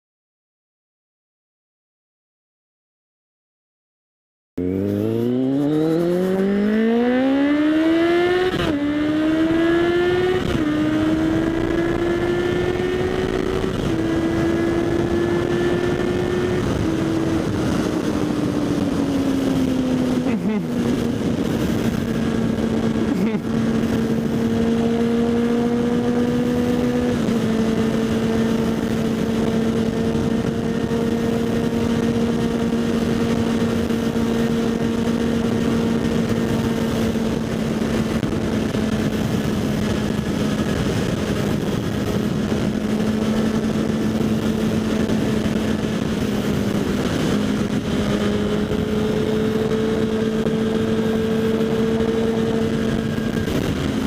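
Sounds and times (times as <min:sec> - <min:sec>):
motorcycle engine running steadily: 0:04.6 - 0:54.0
wind rush: 0:04.6 - 0:54.0.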